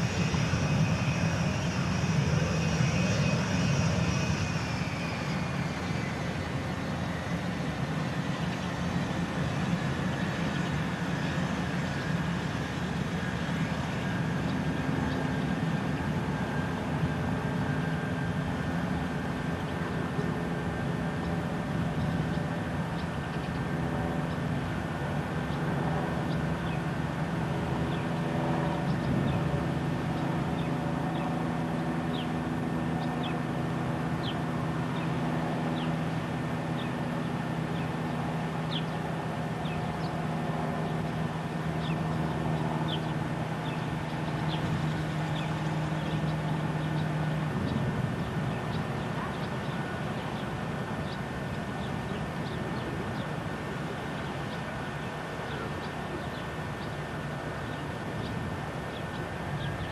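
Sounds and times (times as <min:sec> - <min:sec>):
distant jet engines droning: 0:00.0 - 0:59.9.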